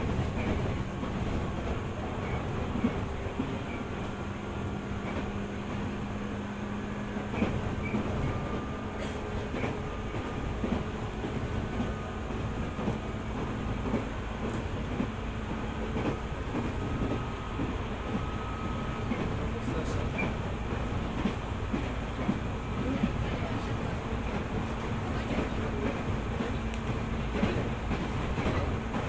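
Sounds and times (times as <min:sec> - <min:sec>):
train rolling rumble: 0:00.0 - 0:29.0.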